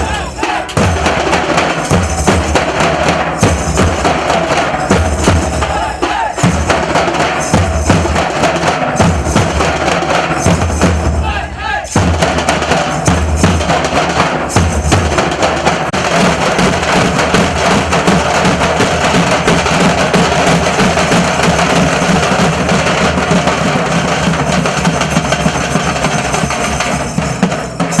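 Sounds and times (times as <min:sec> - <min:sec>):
dhol drums playing fast rhythm: 0:00.0 - 0:28.0.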